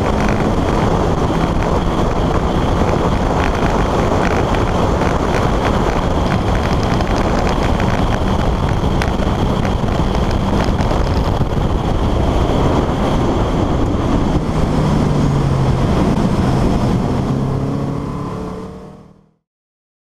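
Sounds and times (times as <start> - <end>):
wind noise on microphone: 0.0 - 19.2
car engine running at speed: 0.0 - 19.4.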